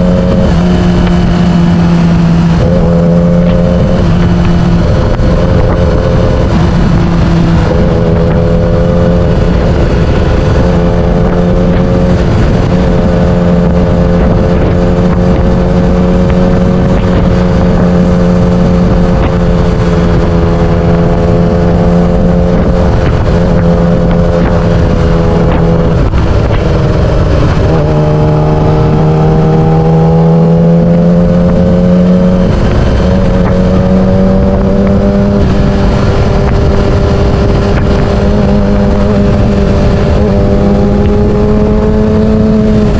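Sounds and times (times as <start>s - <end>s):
motorcycle engine running: 0.0s - 42.9s
wind noise on microphone: 0.0s - 42.9s.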